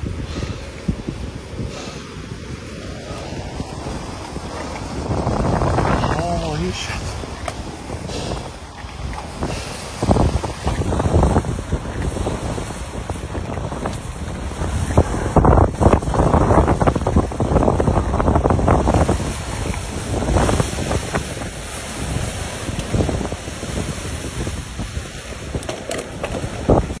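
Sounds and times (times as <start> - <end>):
gusty wind buffeting microphone: 0.0 - 27.0.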